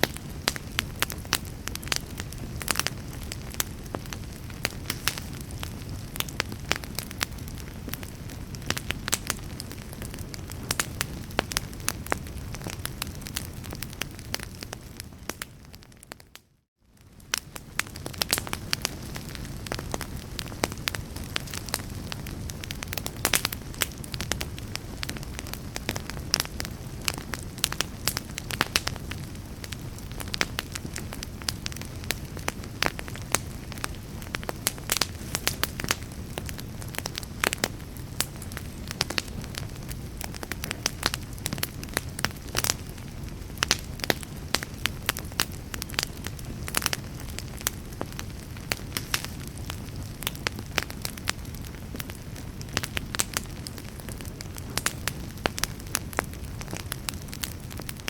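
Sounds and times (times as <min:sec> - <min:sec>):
fire rumbling: 0:00.0 - 0:58.0
wood crackling and popping: 0:00.0 - 0:58.0.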